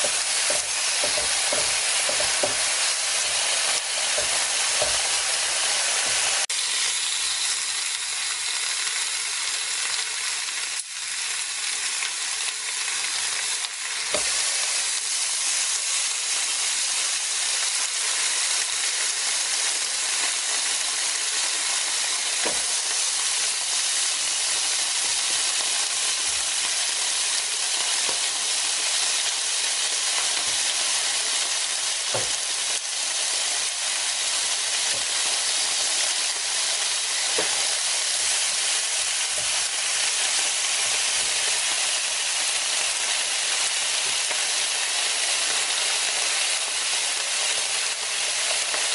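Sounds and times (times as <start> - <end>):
meat sizzling on grill plate: 0.0 - 48.9.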